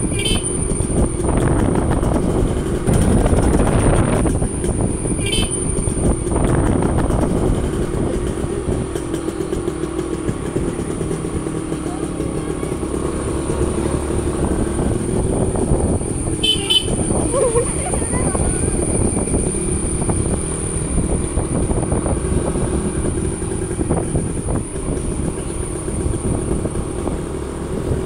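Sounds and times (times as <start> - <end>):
two-stroke motorcycle engine: 0.0 - 28.0.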